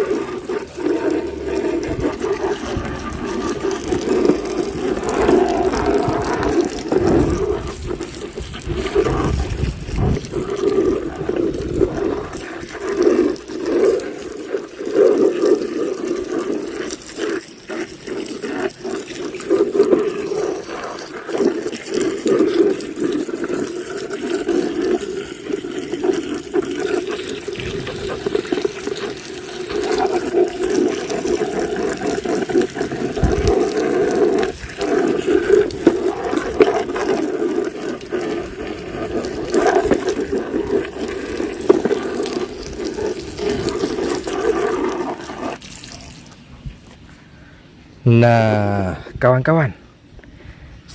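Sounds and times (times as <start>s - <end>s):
water running and splashing: 0.0s - 47.0s.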